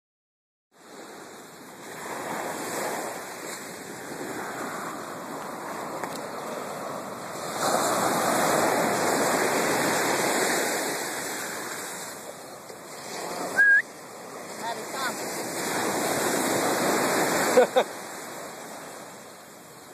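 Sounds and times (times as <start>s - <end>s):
ocean surf washing onto beach: 0.8s - 19.9s.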